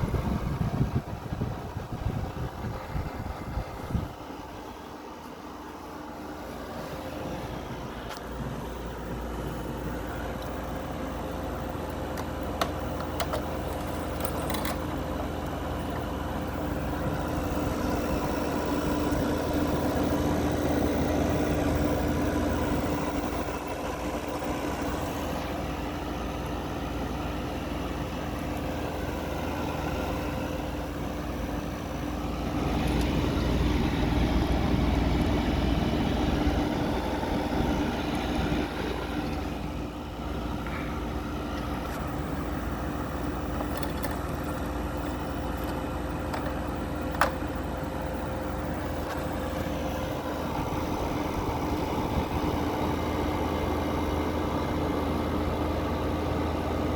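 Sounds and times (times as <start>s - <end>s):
air conditioner hum and fan: 0.0s - 56.9s.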